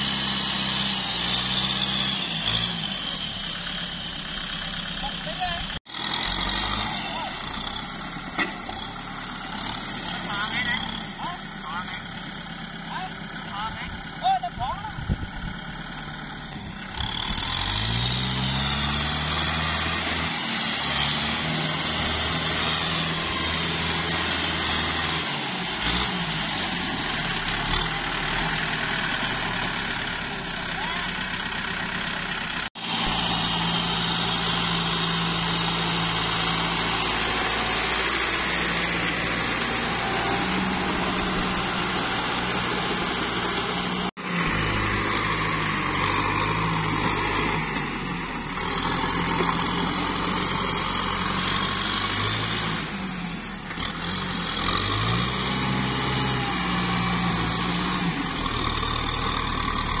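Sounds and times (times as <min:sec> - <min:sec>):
tractor churning through mud: 0:00.0 - 1:00.0
tractor diesel engine under load: 0:00.0 - 1:00.0.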